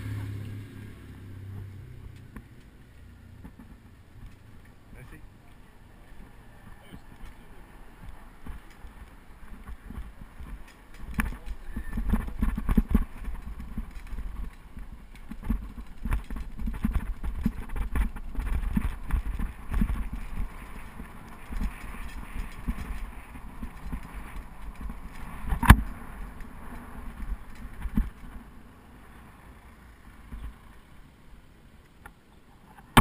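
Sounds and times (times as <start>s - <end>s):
bicycle rattling over rough road: 0.0s - 31.3s.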